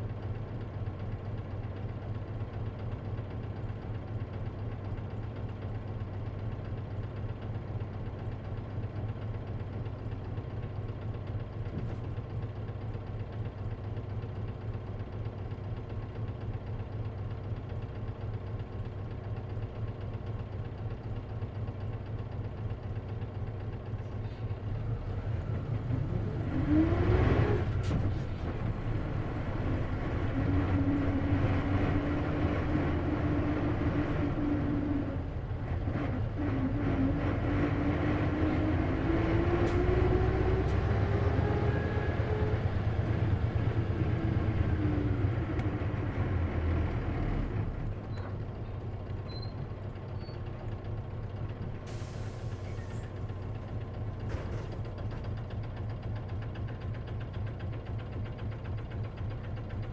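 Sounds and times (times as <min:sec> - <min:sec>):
bus engine idling: 0:00.0 - 0:26.2, 0:27.8 - 0:36.4, 0:42.1 - 0:59.9.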